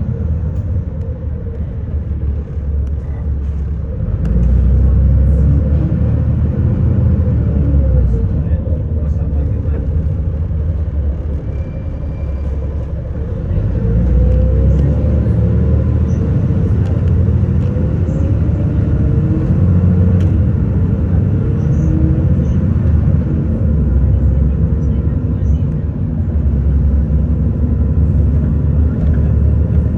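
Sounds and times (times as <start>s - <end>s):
bus engine accelerating: 0.0s - 29.9s
road noise: 0.0s - 29.9s.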